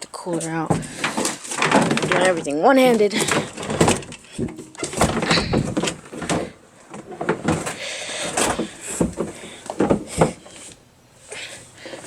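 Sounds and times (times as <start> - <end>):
cooler knocking and scraping: 0.0 - 12.0.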